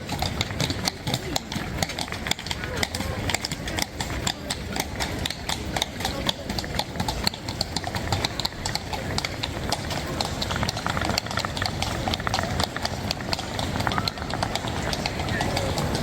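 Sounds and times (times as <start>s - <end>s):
hooves clip-clopping on cobblestones: 0.0s - 16.0s.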